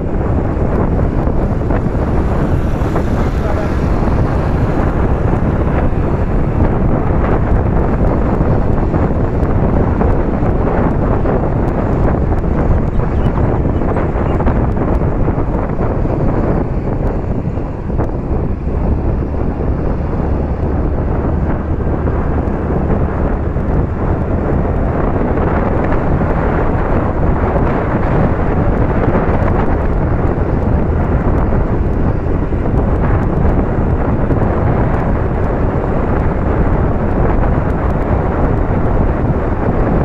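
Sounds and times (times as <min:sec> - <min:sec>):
road noise: 0:00.0 - 0:40.0
scooter running: 0:00.0 - 0:40.0
wind buffeting microphone: 0:00.0 - 0:40.0.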